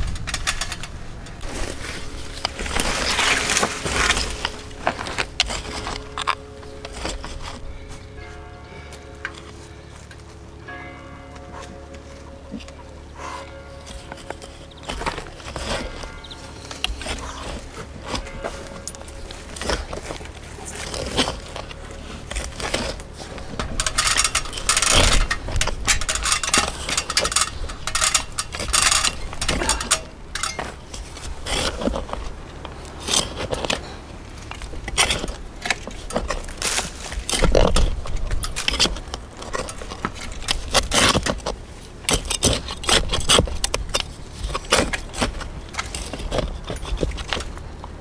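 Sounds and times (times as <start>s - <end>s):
blade clinking on stones: 0.0s - 48.0s
trowel scraping stony soil: 1.3s - 8.2s, 12.6s - 48.0s.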